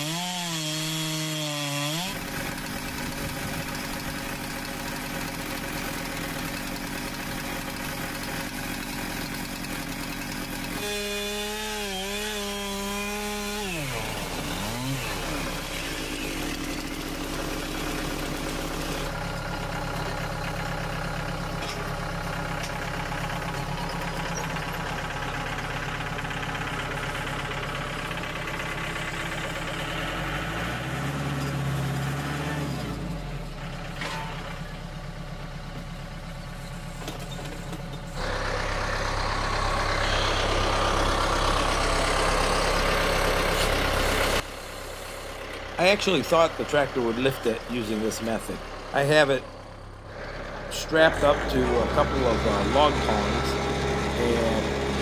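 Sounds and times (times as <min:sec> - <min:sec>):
chainsaw revving: 0:00.0 - 0:21.0, 0:22.8 - 0:33.7, 0:38.2 - 0:55.0
tractor diesel engine running: 0:00.1 - 0:55.0.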